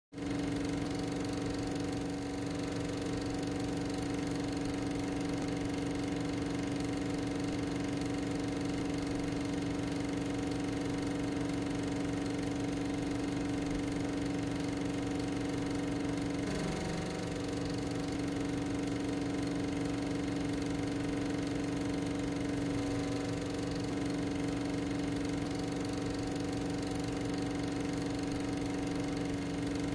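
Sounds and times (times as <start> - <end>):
steady mechanical hum: 0.2 - 29.9.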